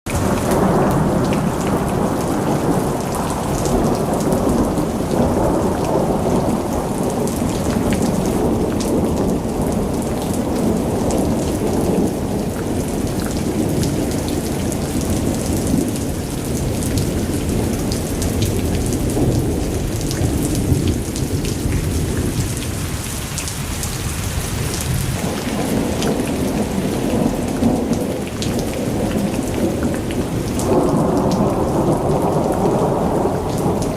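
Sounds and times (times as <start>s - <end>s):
heavy rain: 0.0s - 33.9s
thunder rumbling: 0.1s - 33.9s.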